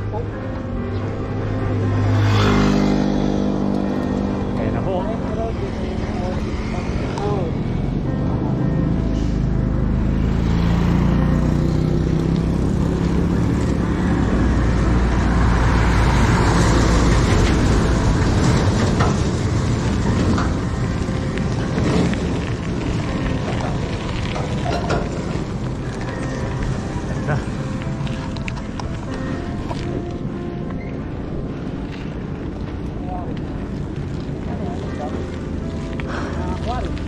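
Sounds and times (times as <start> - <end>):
truck driving past: 0.0 - 32.9.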